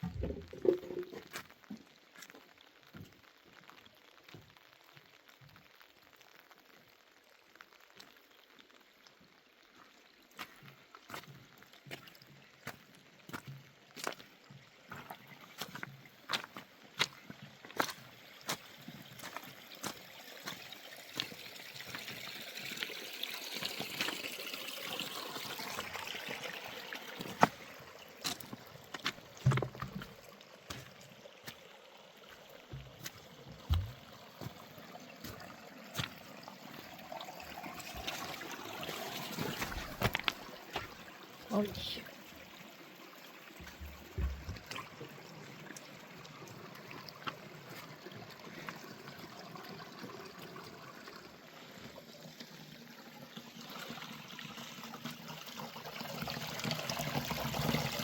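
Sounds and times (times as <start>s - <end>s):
faint rain pattering: 0.0s - 52.8s
water trickling and pouring: 0.0s - 58.0s.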